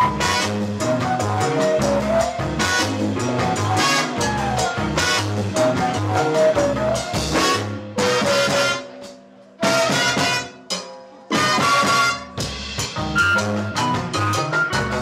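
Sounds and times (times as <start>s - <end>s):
latin band playing: 0.0s - 15.0s.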